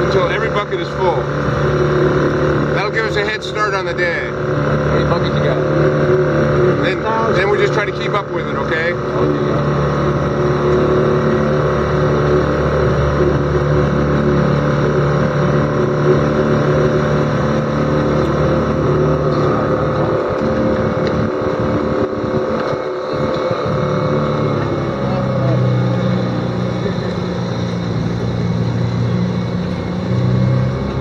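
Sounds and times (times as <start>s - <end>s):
motorboat engine running: 0.0s - 31.0s.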